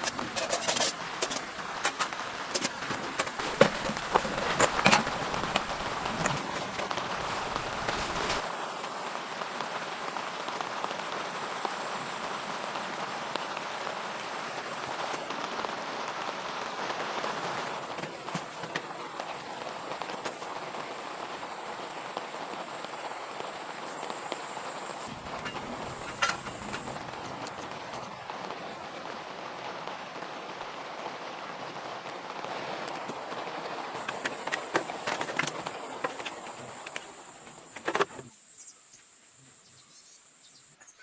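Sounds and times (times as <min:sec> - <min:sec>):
steady rain falling: 0:00.0 - 0:40.8.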